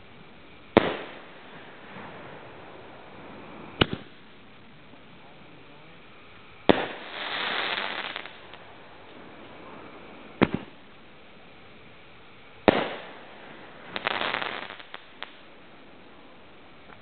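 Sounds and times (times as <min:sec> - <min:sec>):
firework bangs and crackling: 0:00.0 - 0:17.0.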